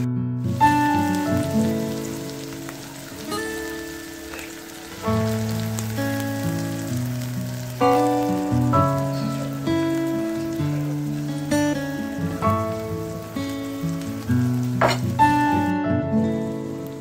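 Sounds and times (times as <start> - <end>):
background music: 0.0 - 17.0
vegetables sizzling in a pan: 0.0 - 17.0.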